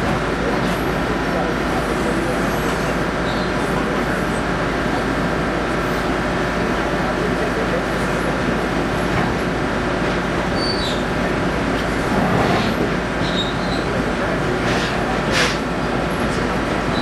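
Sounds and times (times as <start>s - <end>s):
railcar wheels rumbling: 0.0s - 17.0s.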